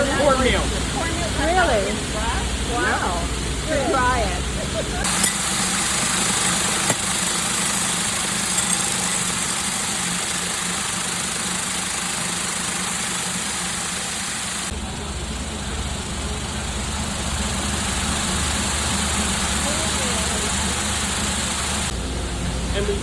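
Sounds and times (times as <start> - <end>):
factory machinery humming: 0.0 - 23.0.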